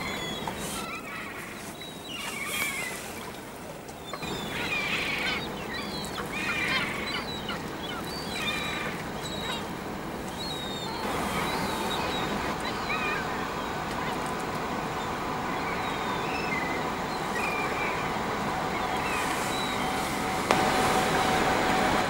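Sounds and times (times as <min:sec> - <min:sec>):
gulls calling harshly: 0:00.0 - 0:22.0.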